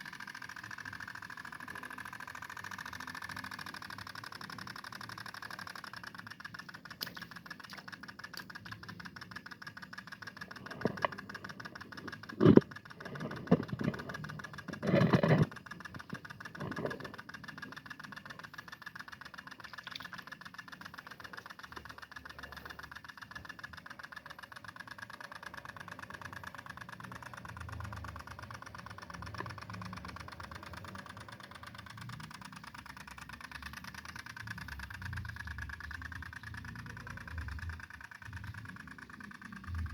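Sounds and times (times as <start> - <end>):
two-stroke tiller engine running: 0.0 - 39.9.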